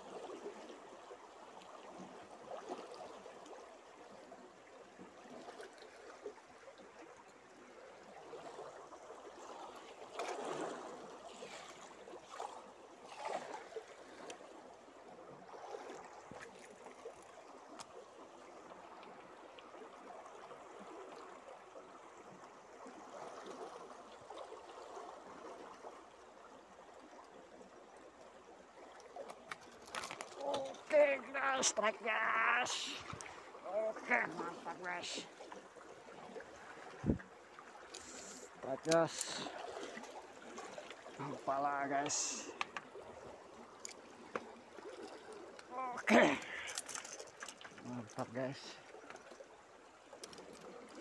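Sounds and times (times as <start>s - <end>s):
river current rushing: 4.3s - 51.0s.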